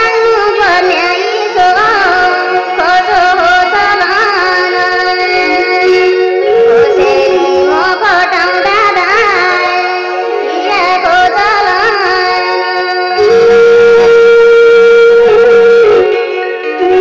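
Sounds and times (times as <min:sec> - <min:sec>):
folk song wavering melody: 0:00.0 - 0:17.0
sustained accompaniment: 0:00.0 - 0:17.0.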